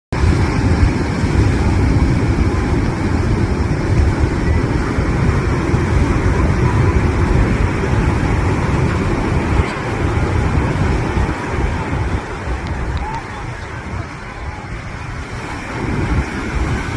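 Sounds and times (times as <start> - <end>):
waves breaking on beach: 0.2 - 16.9.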